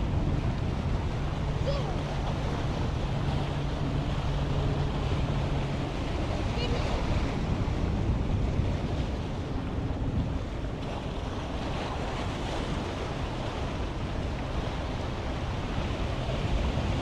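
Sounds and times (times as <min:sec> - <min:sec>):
ocean surf washing on shore: 0:00.0 - 0:17.0
wind buffeting microphone: 0:00.0 - 0:17.0.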